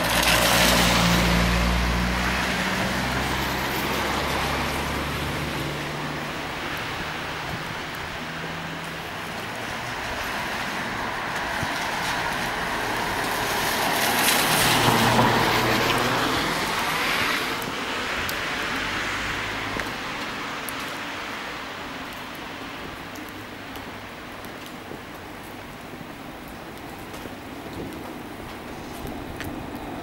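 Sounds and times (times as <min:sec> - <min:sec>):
car tyres hissing on wet road: 0:00.0 - 0:30.0.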